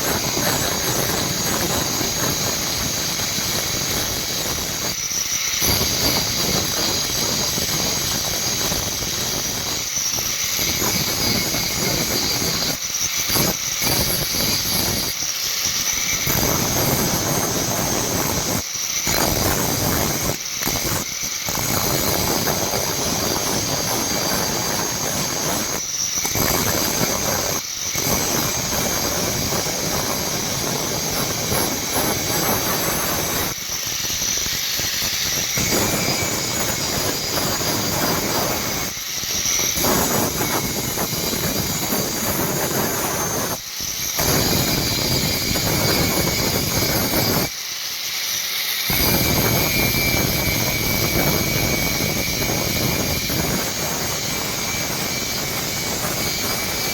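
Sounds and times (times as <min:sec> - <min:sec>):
power grinder on steel: 0:00.0 - 0:56.9.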